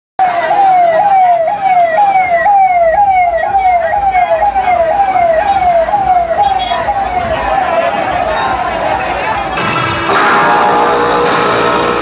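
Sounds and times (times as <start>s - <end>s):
electronic siren wailing: 0.2s - 8.0s, 9.6s - 12.0s.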